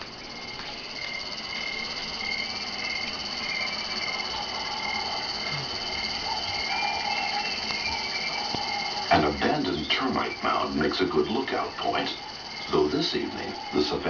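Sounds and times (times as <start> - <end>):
frogs and insects chirping: 0.0 - 14.0.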